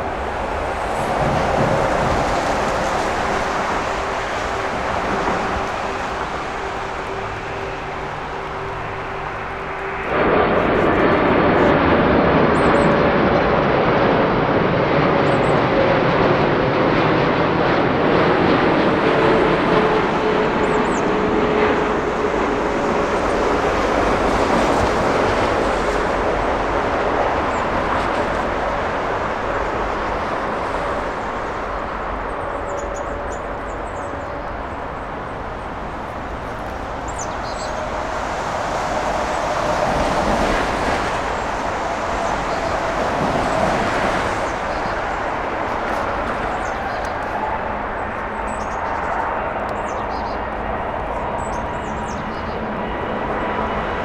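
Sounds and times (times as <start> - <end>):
jet airliner engines passing: 0.0 - 54.0.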